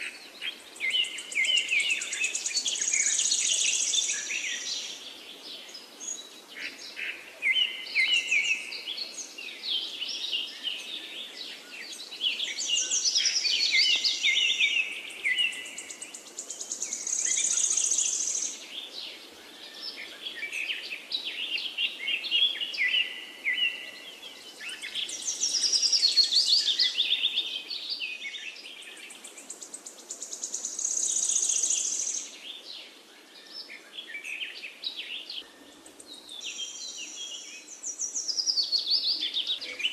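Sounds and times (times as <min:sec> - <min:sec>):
birds chirping and warbling: 0:00.0 - 0:39.9.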